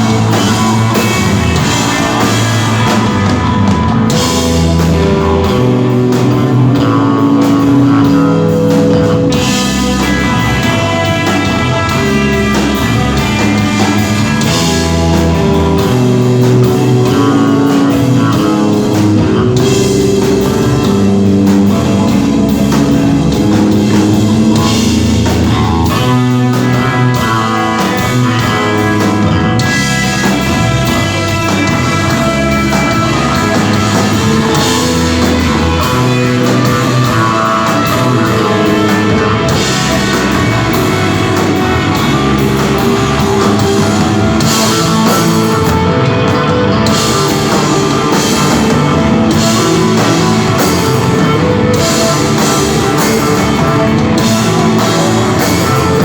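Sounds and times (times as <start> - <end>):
bass notes: 0.0 - 56.0
drum kit with cymbals: 0.0 - 56.0
electric guitar melody: 0.0 - 56.0.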